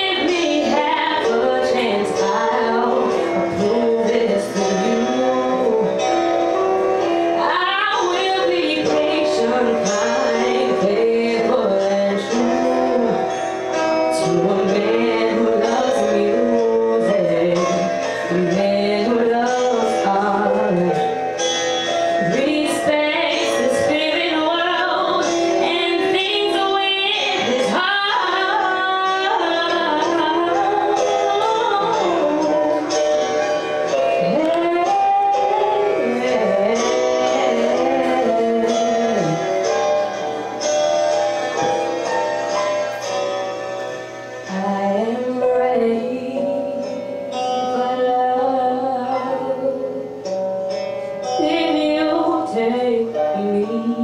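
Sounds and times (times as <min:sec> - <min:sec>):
woman singing into a microphone: 0:00.0 - 0:33.0, 0:33.6 - 0:39.8, 0:44.4 - 0:54.0
instrumental accompaniment: 0:00.0 - 0:54.0.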